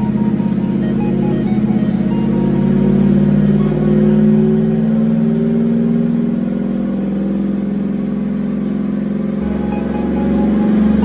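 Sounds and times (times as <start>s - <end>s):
supercharged engine under load: 0.0s - 11.0s.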